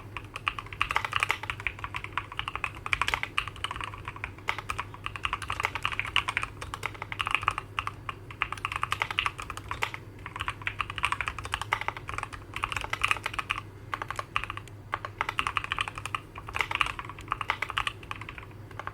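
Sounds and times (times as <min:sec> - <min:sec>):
mechanical keyboard typing: 0:00.0 - 0:18.9.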